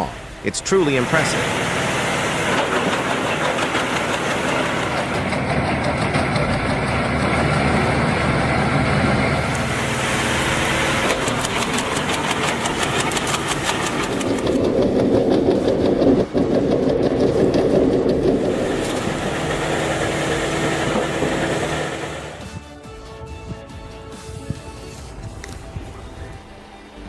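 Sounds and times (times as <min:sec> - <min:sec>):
wood chipper engine running: 0:00.0 - 0:22.6.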